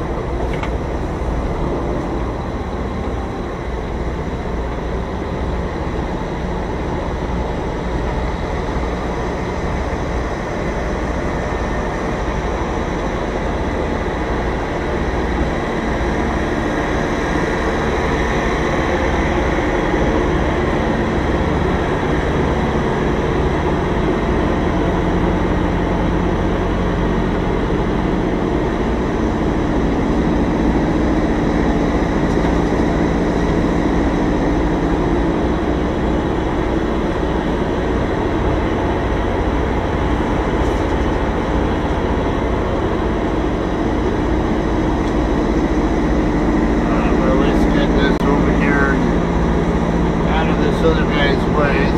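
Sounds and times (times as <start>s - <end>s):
diesel truck engine rumbling: 0.0s - 51.9s.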